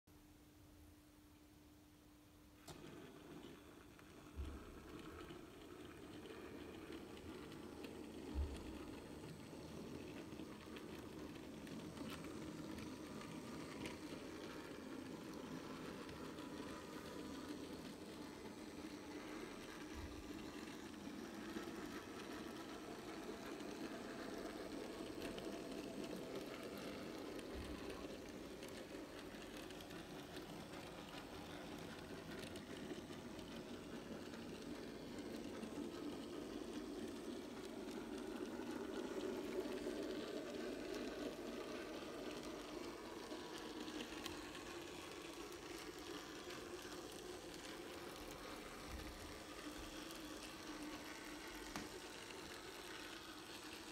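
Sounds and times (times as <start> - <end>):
model train motor whirring: 2.6 - 53.9.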